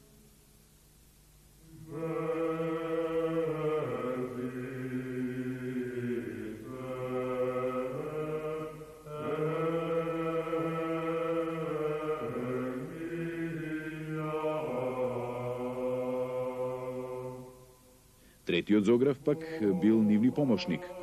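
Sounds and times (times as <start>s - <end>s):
slow chanted singing: 0.0s - 21.0s.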